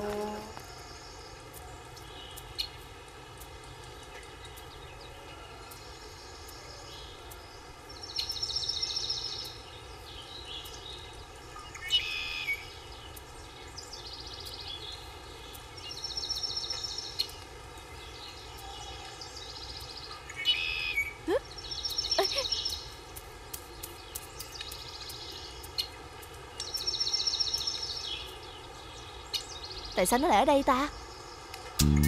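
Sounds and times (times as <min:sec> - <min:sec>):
background hiss: 0:00.0 - 0:32.0
birds chattering trills: 0:03.8 - 0:32.0.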